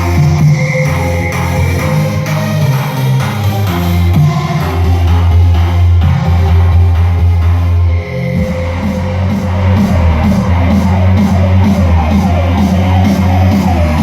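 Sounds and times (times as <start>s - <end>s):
electronic dance music with heavy bass: 0.0s - 14.0s.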